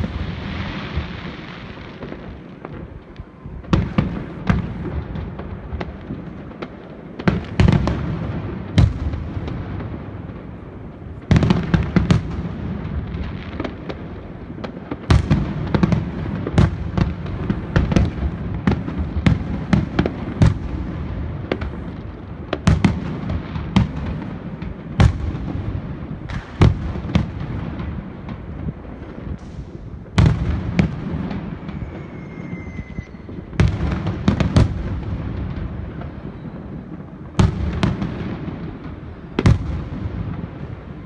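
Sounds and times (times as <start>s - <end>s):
crackling echoing detonations: 0.0s - 41.0s.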